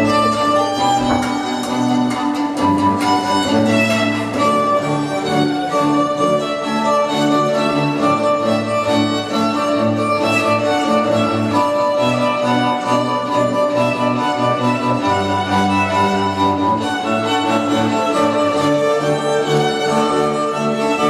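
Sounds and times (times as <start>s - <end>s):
violins: 0.0s - 21.0s.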